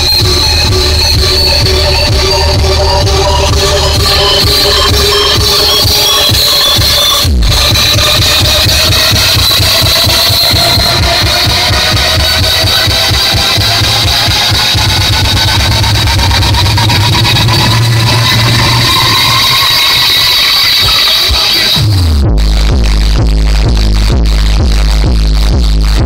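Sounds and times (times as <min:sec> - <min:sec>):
sustained rising tones: 0:00.0 - 0:21.9
electronic music with heavy bass: 0:00.0 - 0:26.0.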